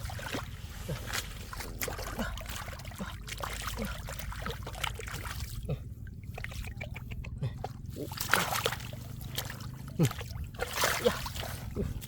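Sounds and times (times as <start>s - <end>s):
floodwater splashing and trickling: 0.0s - 12.0s
steady low hum: 0.0s - 12.0s.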